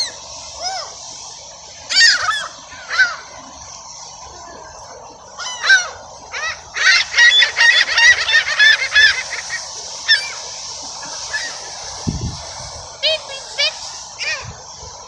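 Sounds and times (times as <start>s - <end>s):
gulls squawking: 0.0s - 15.0s.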